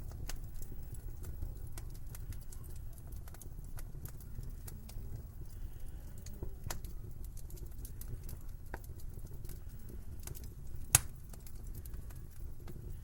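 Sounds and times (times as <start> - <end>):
low rumble of fire: 0.0 - 13.0
wood fire crackling: 0.0 - 13.0.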